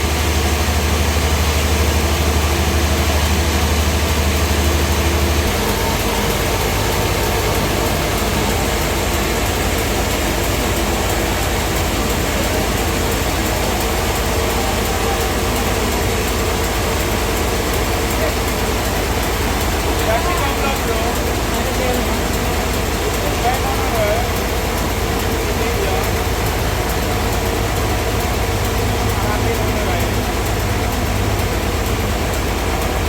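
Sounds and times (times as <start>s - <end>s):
deep low hum: 0.0s - 33.0s
sawmill machinery running: 0.0s - 33.0s.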